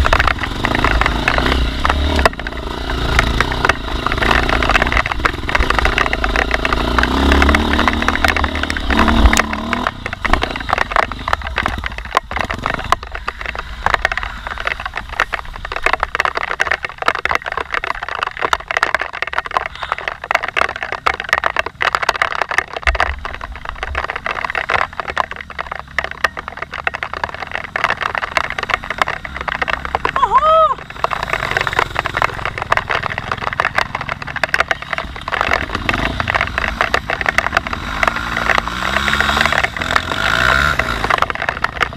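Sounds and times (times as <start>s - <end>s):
crackle of clicks and knocks: 0.0s - 41.9s
motorcycle engine running: 0.0s - 41.9s.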